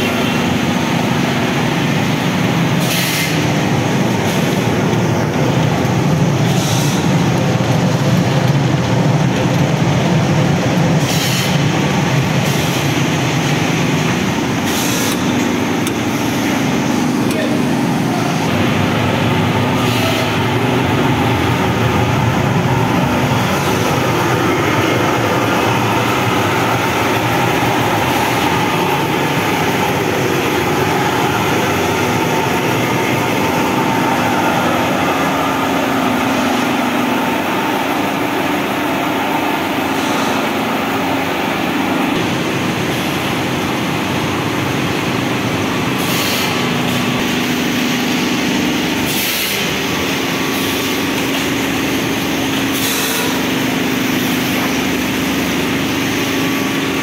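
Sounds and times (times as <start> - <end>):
factory machinery droning: 0.0 - 57.0.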